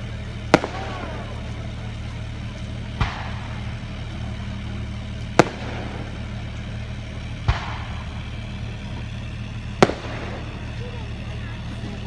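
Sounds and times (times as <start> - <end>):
fireworks bangs: 0.0 - 12.0
steady low hum: 0.0 - 12.0.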